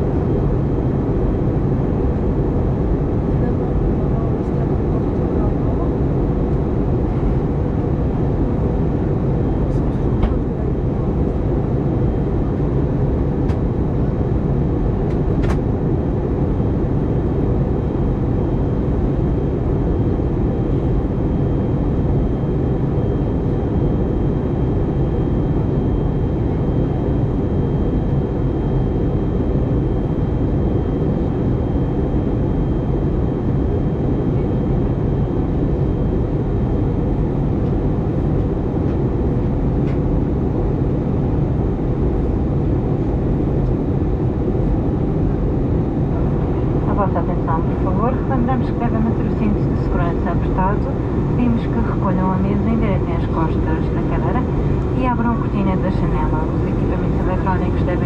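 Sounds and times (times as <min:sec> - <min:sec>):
airplane cabin engine rush: 0:00.0 - 0:58.0.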